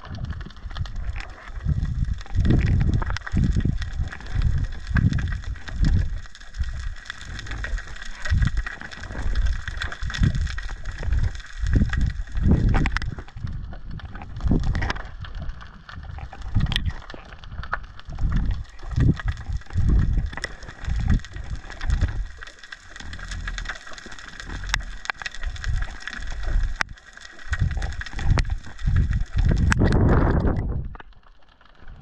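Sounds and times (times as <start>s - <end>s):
faint clicks: 0.0s - 32.0s
muffled underwater water surges: 0.0s - 32.0s.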